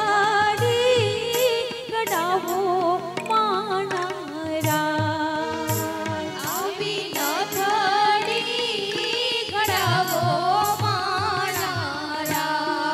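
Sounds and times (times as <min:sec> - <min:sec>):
keyboard accompaniment: 0:00.0 - 0:12.9
woman singing into microphone: 0:00.0 - 0:12.9.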